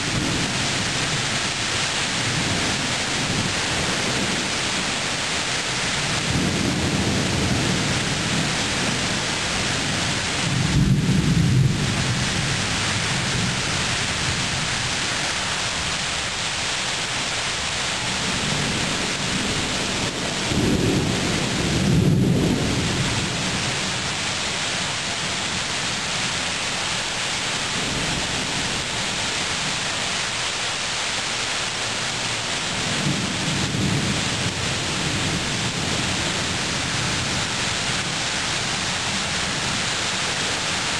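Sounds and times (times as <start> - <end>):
thunder rumbling: 0.0 - 16.4, 18.0 - 26.5, 32.1 - 40.2
heavy rain hiss: 0.0 - 40.9.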